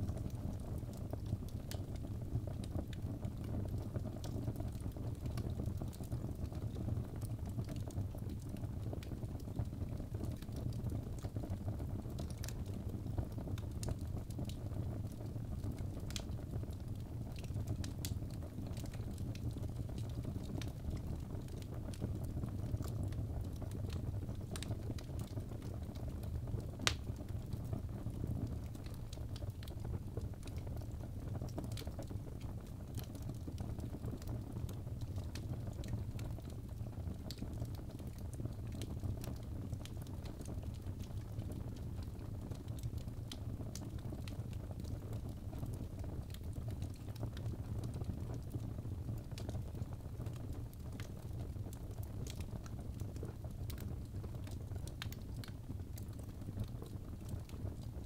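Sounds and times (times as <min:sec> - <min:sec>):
fire crackling and popping: 0:00.0 - 0:58.0
fire rumbling: 0:00.0 - 0:58.0.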